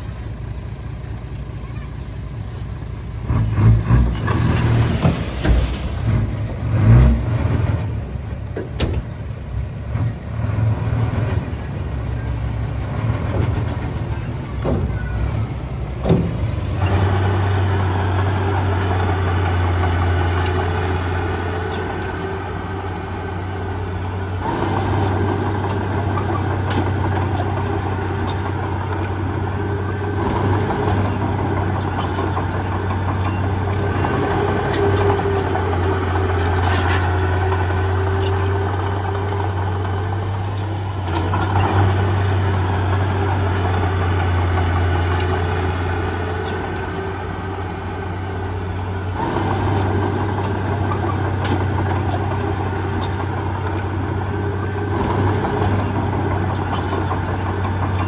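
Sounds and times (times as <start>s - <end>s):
diesel engine running: 0.0s - 58.0s
machinery clunks and knocks: 3.7s - 10.2s, 12.8s - 58.0s.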